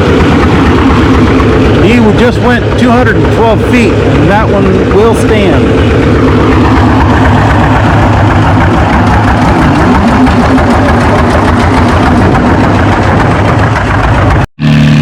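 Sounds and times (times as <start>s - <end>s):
tractor engine chugging: 0.0s - 15.0s.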